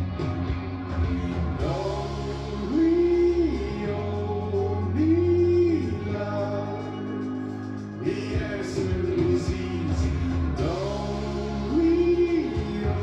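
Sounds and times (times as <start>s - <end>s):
pop song backing music: 0.0s - 13.0s.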